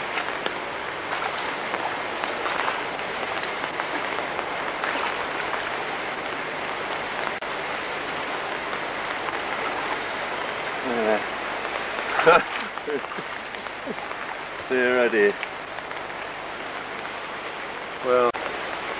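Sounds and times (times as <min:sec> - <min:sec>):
rushing water: 0:00.0 - 0:18.9.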